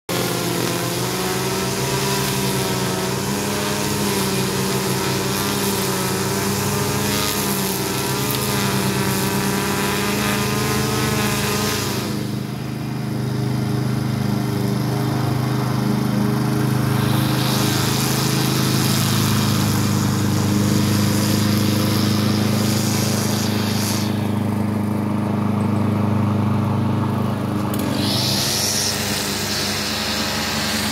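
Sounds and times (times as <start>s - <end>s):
lawn mower engine running: 0.1s - 30.9s
string trimmer engine high revs: 0.1s - 30.9s.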